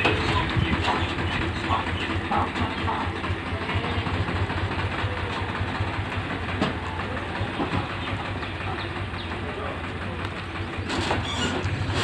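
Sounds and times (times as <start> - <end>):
train rumbling past: 0.0 - 12.0
wheels clattering over rail joints: 0.0 - 12.0.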